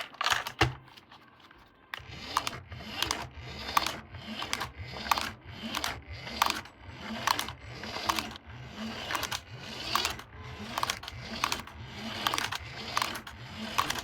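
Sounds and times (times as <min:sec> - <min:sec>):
toy motor humming and clicking: 0:02.0 - 0:14.0.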